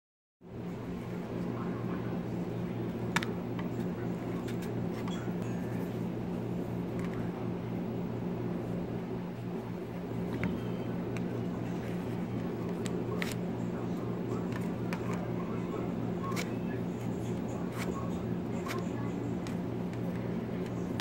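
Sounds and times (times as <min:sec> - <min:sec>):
low hum: 0:00.4 - 0:21.0.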